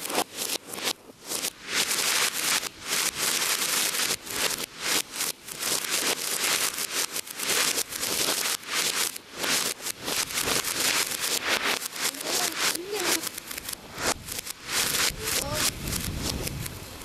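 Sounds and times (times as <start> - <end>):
firework hissing crackle reversed: 0.0 - 17.0.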